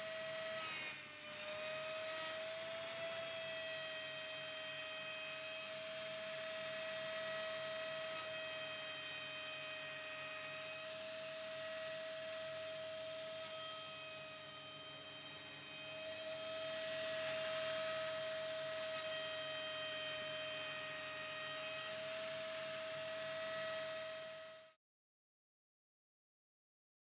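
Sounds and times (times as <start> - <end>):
router spindle whining: 0.0 - 24.6.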